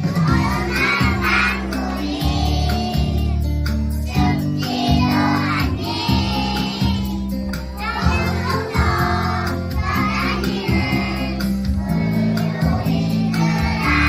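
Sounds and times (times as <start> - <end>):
children singing: 0.0 - 3.4, 4.1 - 14.0
accompaniment with bass line: 0.0 - 14.0.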